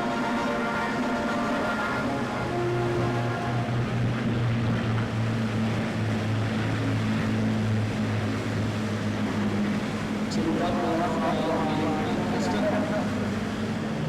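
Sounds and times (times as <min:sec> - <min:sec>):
propeller aircraft passing: 0:00.0 - 0:14.0.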